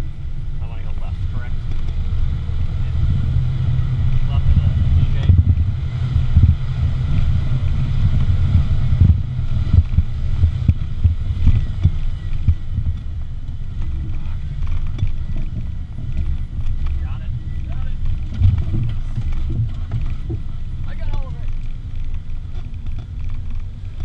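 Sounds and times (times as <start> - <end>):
vehicle engine rumble: 0.0 - 24.0
wind buffeting microphone: 0.0 - 24.0
vehicle thumps over rough ground: 0.6 - 24.0.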